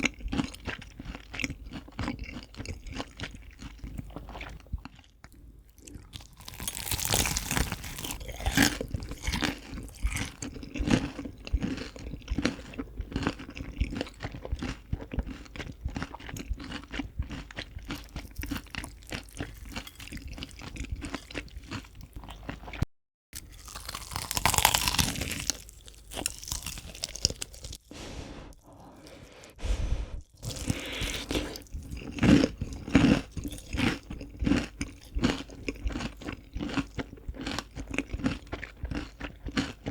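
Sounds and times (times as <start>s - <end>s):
crunching fried chicken: 0.0s - 22.8s, 23.4s - 27.9s, 30.4s - 39.9s.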